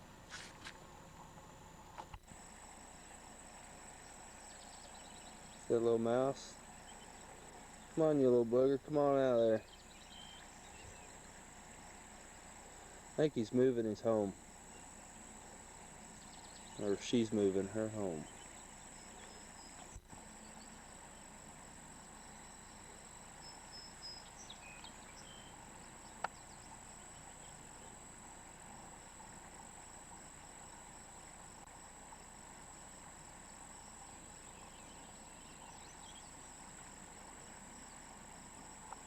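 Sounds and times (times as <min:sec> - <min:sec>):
crickets chirping: 0:00.0 - 0:39.0
insect drone: 0:00.0 - 0:39.0.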